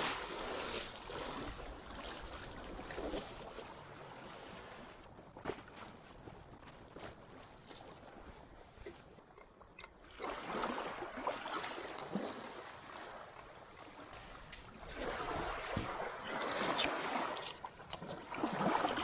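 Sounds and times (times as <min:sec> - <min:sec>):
water sloshing and splashing: 0:00.0 - 0:19.0.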